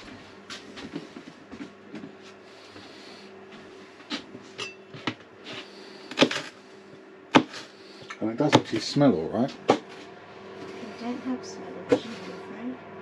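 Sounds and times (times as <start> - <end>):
air fryer humming: 0.0 - 13.0.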